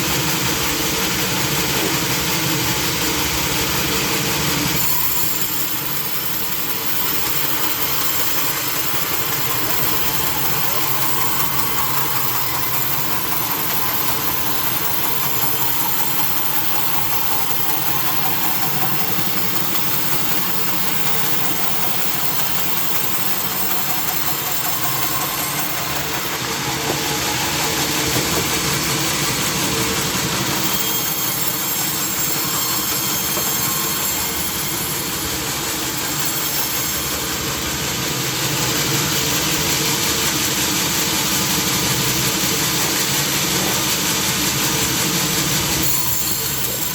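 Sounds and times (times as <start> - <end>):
sawmill machinery drone: 0.0 - 46.9.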